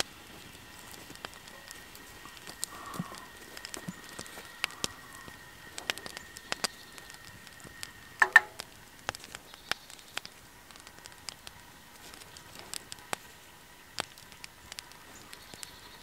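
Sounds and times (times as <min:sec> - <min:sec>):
sticks crackling and popping: 0:00.0 - 0:16.0.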